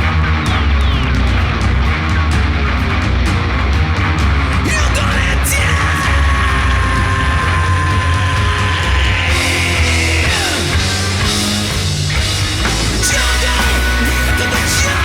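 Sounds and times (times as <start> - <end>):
electric guitar sliding down: 0.0 - 15.0
rock band playing: 0.0 - 15.0.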